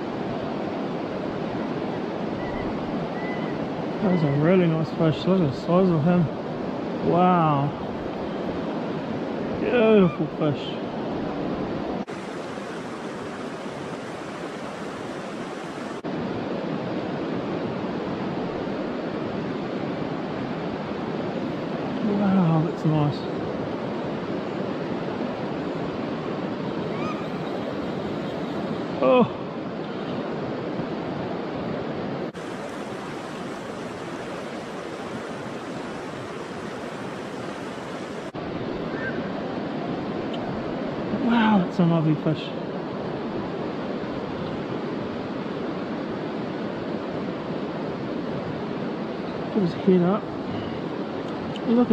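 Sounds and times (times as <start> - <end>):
fast-flowing river water: 0.0 - 51.9.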